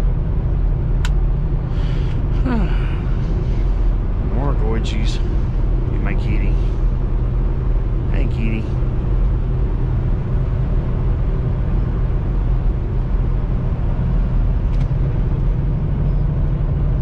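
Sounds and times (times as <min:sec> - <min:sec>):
road noise: 0:00.0 - 0:17.0
truck diesel engine rumble: 0:00.0 - 0:17.0.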